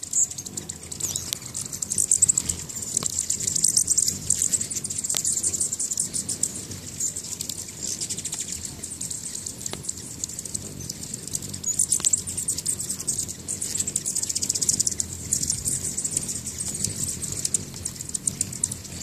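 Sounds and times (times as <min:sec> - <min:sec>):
high-pitched bird chittering: 0:00.0 - 0:19.0
hummingbird wings humming: 0:00.0 - 0:19.0.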